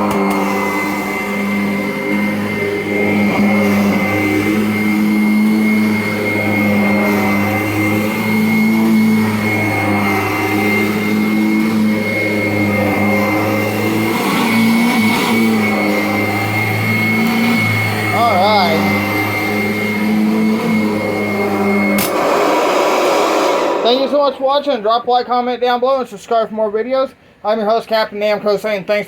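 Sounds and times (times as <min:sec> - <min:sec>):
vacuum cleaner running: 0:00.0 - 0:25.2.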